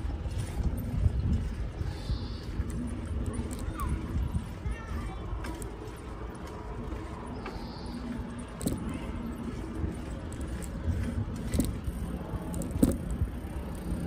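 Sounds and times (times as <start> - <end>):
bicycle clicks and rattles: 0.0 - 14.0
road noise: 0.0 - 14.0
wind on microphone: 0.0 - 14.0.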